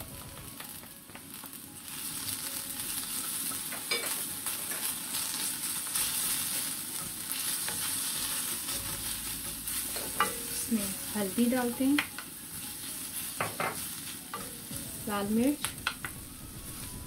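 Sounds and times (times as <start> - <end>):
wooden spatula stirring in pan: 1.1 - 16.2
paste sizzling in hot oil: 1.3 - 17.0.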